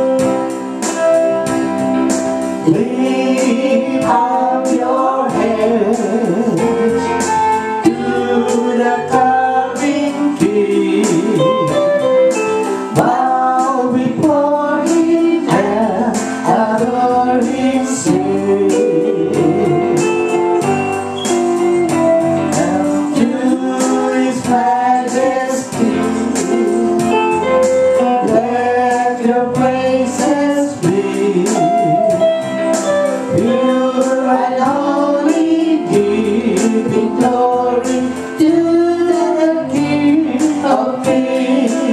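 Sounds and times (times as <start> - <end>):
guitar strummed rhythmically: 0.0 - 41.9
people singing: 2.6 - 12.1, 12.7 - 21.3, 22.3 - 41.9.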